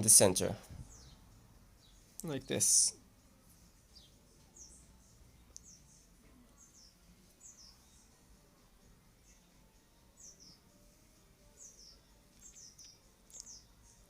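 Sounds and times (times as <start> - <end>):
faint high bird chirps: 0.7 - 3.0, 3.9 - 8.2, 9.2 - 14.0.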